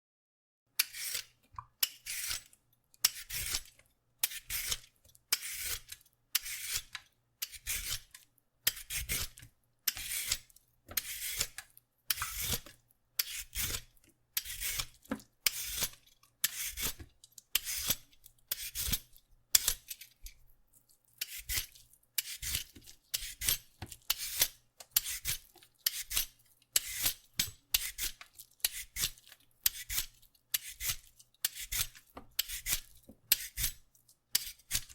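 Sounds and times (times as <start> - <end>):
peeler scraping a carrot: 0.8 - 34.9.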